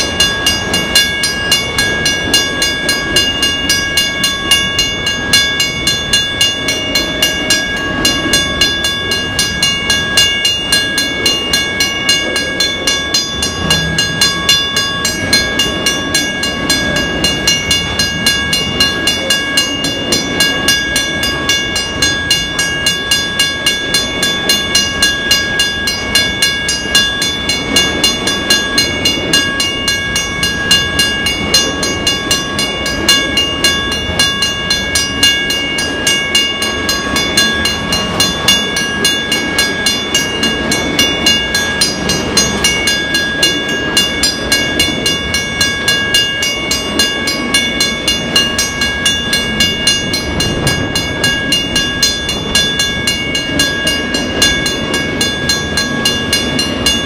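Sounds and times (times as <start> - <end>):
crossing bell dinging: 0.0 - 57.0
train wheels clacking on rails: 0.0 - 57.0.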